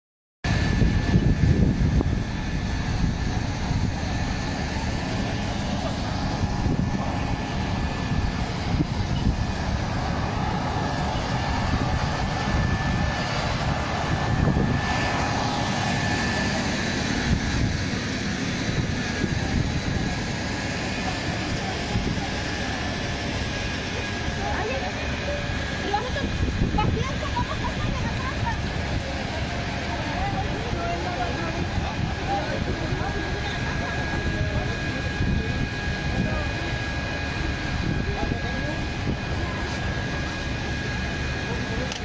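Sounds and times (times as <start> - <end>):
fire engine pump drone: 0.4 - 42.0
wind buffeting microphone: 0.5 - 41.9
faint constant whine: 0.5 - 42.0.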